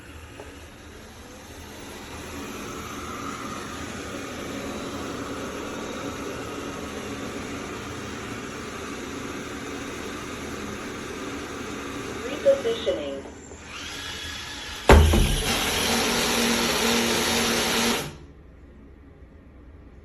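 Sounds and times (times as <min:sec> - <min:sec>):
robot vacuum whirring: 0:00.0 - 0:18.2.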